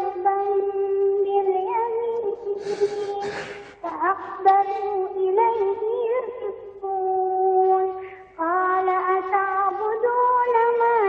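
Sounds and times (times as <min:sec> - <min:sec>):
child singing unaccompanied: 0:00.0 - 0:11.0.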